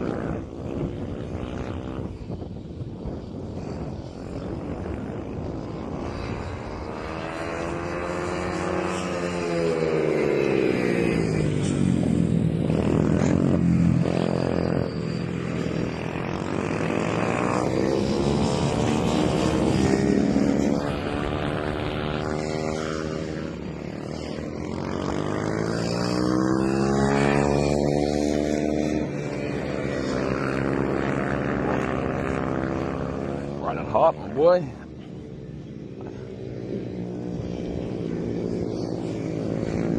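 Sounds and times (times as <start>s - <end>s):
mini motorcycles revving past: 0.0s - 39.9s.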